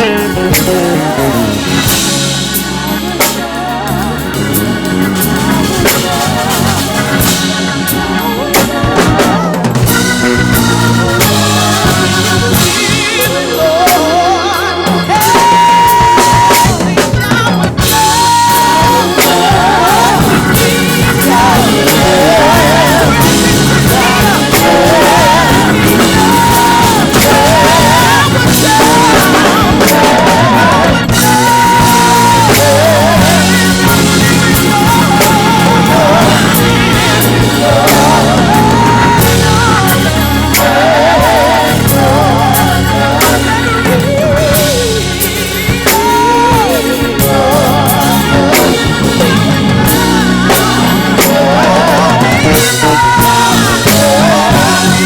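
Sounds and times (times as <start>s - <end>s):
bass drum and snare groove: 0.0s - 55.0s
live praise band music: 0.0s - 55.0s.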